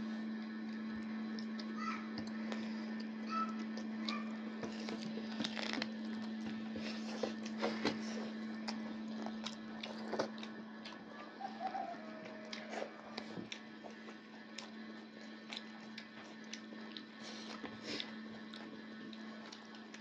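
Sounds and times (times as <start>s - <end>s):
people eating by hand: 0.0s - 20.0s
steady low hum: 0.0s - 20.0s
chewing and smacking: 0.3s - 20.0s.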